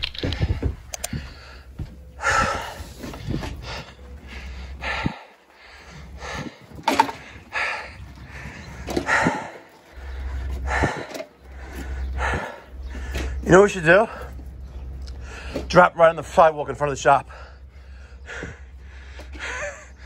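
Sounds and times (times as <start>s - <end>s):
people breathing hard: 0.0s - 16.4s, 17.2s - 20.0s.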